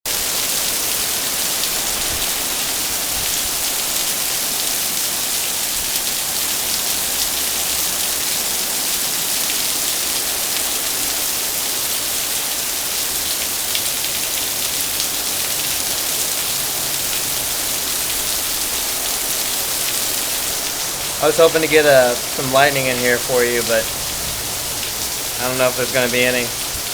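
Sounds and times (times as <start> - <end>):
heavy rain pouring: 0.1 - 26.9.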